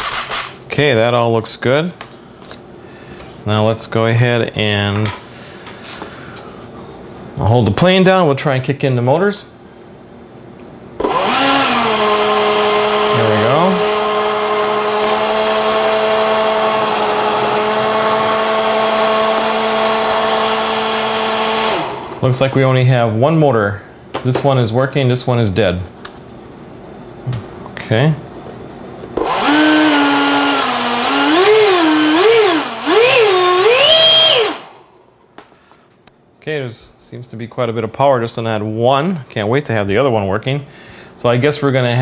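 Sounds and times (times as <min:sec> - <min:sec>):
electric ducted fan whine: 0:00.0 - 0:42.0.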